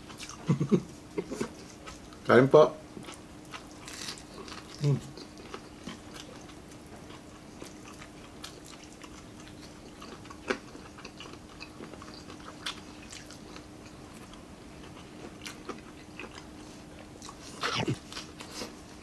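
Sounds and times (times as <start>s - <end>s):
chewing crispy fried chicken: 0.0s - 19.0s
faint steady hum: 0.0s - 19.0s.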